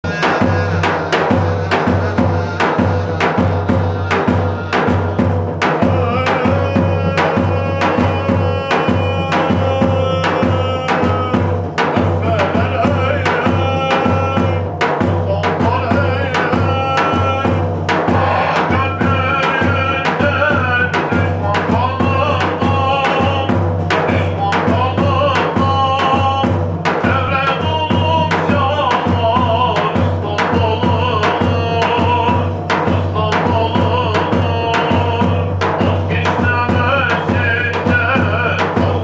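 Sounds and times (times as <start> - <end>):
steady drumbeat: 0.0 - 39.0.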